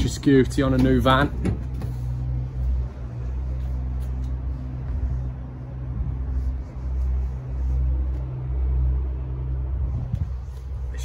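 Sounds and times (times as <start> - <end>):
diesel van engine idling: 0.0 - 11.0.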